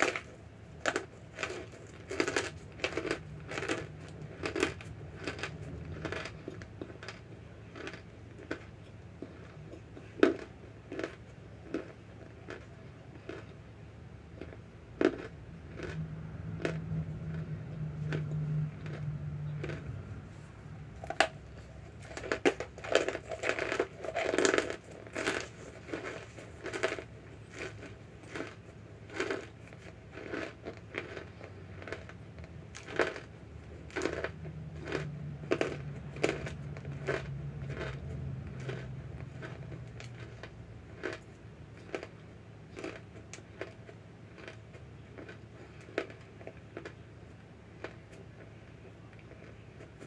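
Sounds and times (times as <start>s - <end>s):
crisp chewing crunches: 0.0s - 50.0s
low steady hum: 0.0s - 50.0s.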